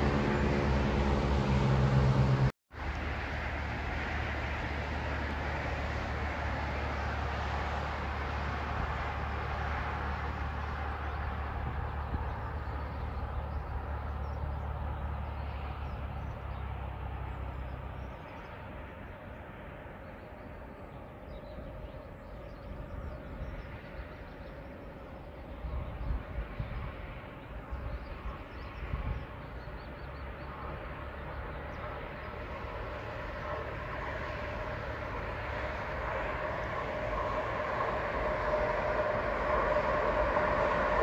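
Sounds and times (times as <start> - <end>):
train passing: 0.0 - 41.0.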